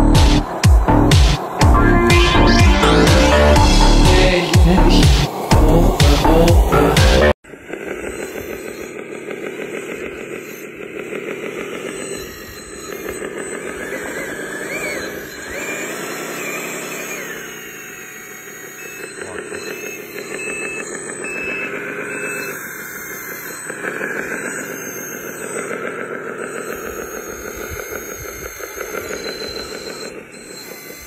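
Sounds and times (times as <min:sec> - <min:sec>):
electric motors whining: 0:00.0 - 0:31.0.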